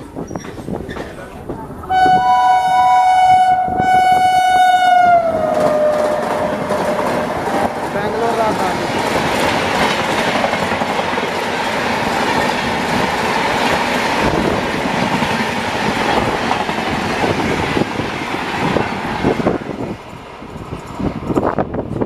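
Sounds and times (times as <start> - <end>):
train wheels rushing on rails: 3.4 - 22.0.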